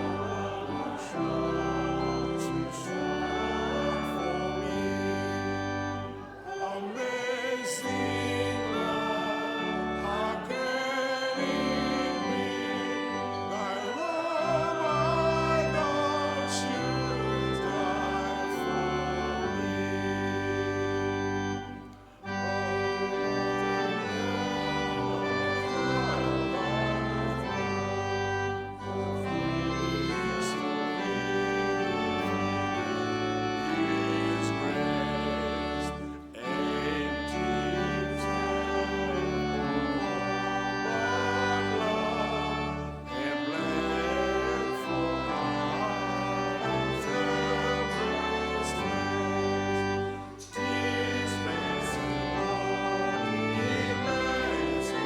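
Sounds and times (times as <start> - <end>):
people singing: 0.0 - 21.0, 21.6 - 55.0
church organ playing a hymn: 0.0 - 55.0.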